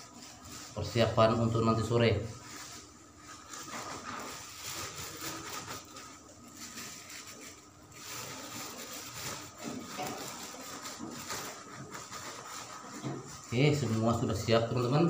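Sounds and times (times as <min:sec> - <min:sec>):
plastic bag rustling and crinkling: 0:00.0 - 0:15.0.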